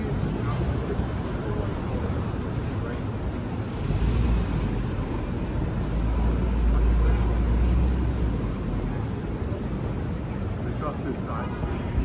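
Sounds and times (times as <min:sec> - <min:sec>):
cars driving past: 0:00.0 - 0:12.0
low traffic rumble: 0:00.0 - 0:12.0.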